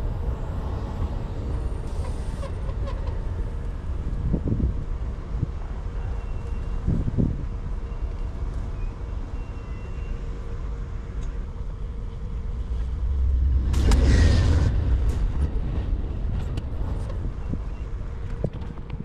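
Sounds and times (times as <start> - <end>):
train rumbling at platform: 0.0 - 19.0.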